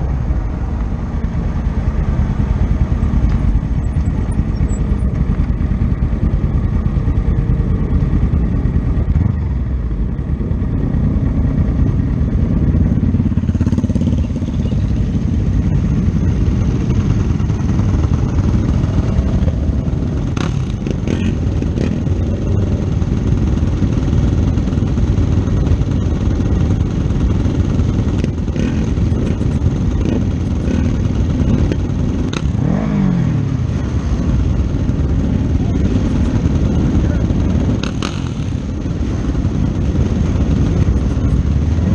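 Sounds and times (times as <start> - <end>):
loud steady rushing noise: 0.0 - 41.9
race motorcycle engine running hard: 0.0 - 41.9.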